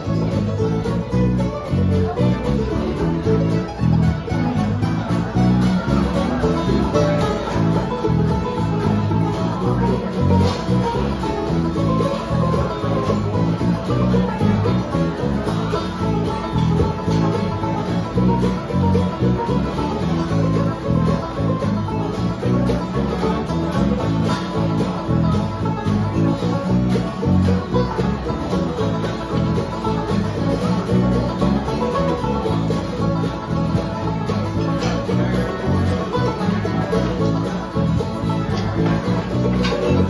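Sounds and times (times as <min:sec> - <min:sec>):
acoustic string band jamming: 0:00.0 - 0:40.0.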